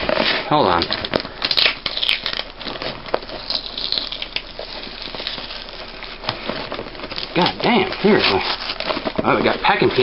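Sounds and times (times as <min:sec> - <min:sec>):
tape and cardboard crinkling: 0:00.0 - 0:10.0.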